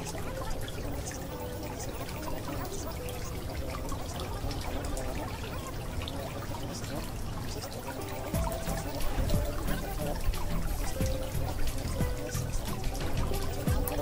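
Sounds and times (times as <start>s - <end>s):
water trickling and pouring: 0.0s - 14.0s.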